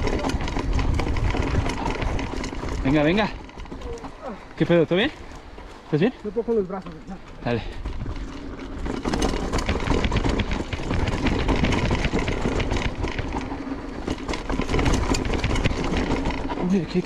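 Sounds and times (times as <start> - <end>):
bike rattling and clattering: 0.0 - 17.0
bike tyres crunching over dirt: 0.0 - 17.0.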